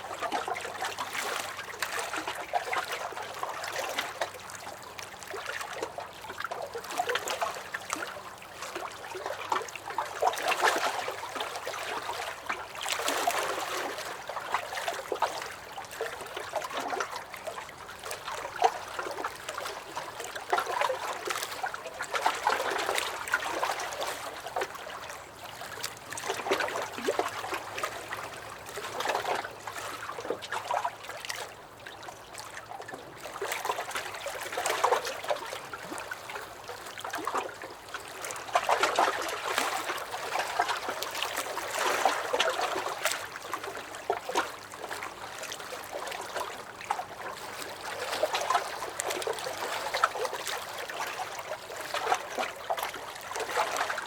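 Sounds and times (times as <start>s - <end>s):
waves lapping against a dock: 0.0s - 54.0s.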